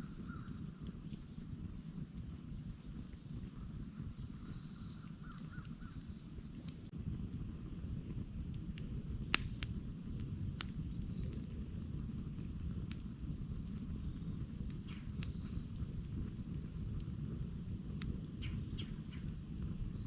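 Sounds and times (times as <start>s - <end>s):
campfire crackling and popping: 0.0s - 20.0s
steady low rumble: 0.0s - 20.0s.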